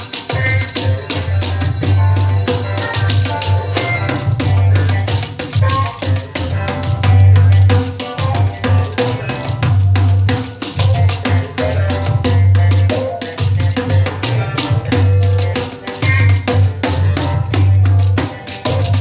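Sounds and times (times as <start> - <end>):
pandeiro playing quick rhythm: 0.0 - 19.0
recorded song with pulsing bass: 0.0 - 19.0.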